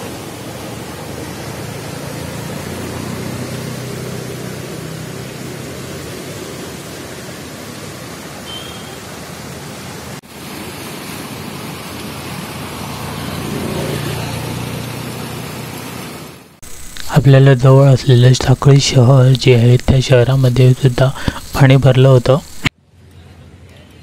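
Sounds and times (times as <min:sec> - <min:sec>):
rushing river water: 0:00.0 - 0:22.7.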